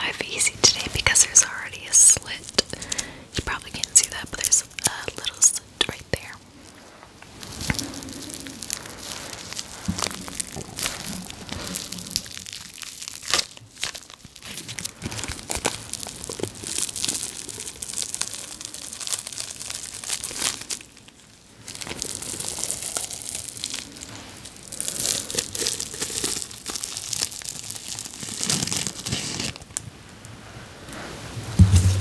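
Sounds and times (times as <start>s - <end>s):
plastic wrapping crinkling: 0.0s - 29.9s.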